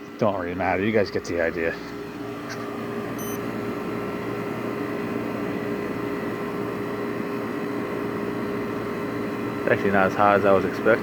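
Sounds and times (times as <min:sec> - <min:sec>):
air conditioner compressor hum: 0:00.0 - 0:11.0
condenser fan rushing: 0:00.0 - 0:11.0.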